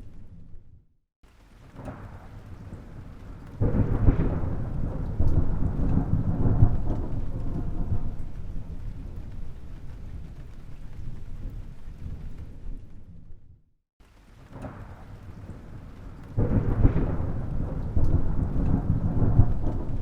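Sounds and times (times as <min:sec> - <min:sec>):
thunder rumbling: 0:01.5 - 0:13.6, 0:14.3 - 0:20.0
loud thunder clap: 0:01.7 - 0:12.9, 0:14.4 - 0:20.0.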